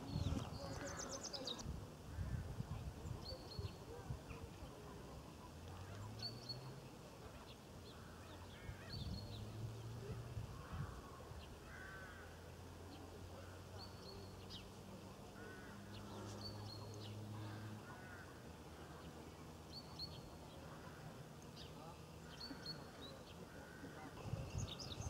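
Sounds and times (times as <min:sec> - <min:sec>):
birds calling: 0:00.0 - 0:02.4, 0:05.7 - 0:25.0.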